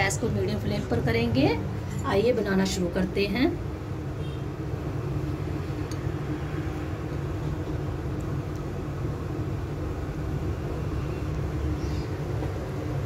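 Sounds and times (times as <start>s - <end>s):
kitchen equipment humming: 0.0s - 13.0s.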